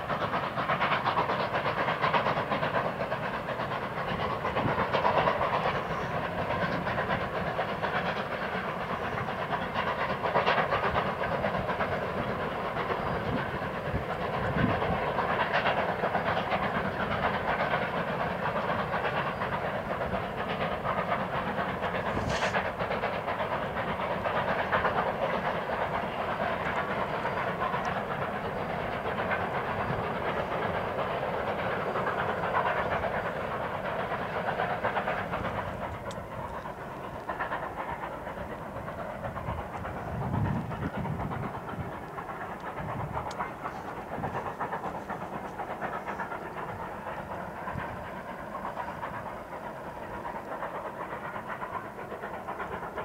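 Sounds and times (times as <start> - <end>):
steam locomotive exhaust: 0.0 - 53.0.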